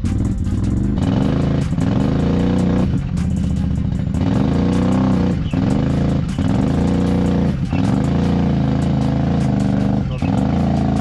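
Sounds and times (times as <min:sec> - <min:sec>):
atv engine revving hard: 0:00.0 - 0:11.0.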